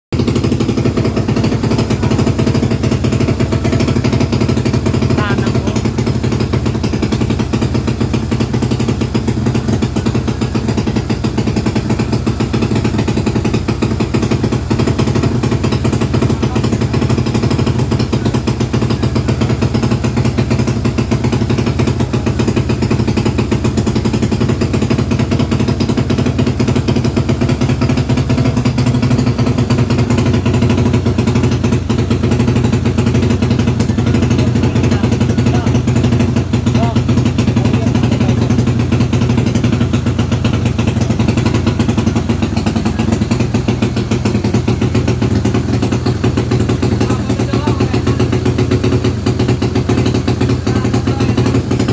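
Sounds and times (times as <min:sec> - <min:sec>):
scooter engine running steadily: 0:00.1 - 0:51.9.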